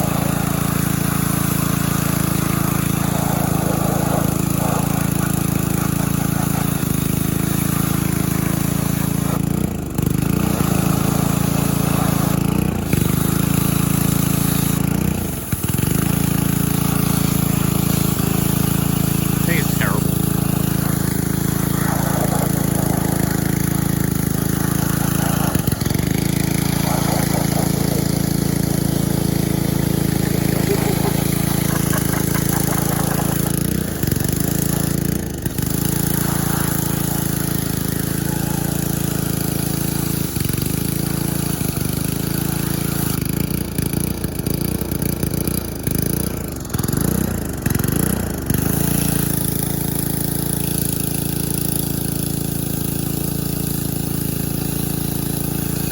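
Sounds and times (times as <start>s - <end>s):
pressure washer engine running: 0.0s - 55.9s.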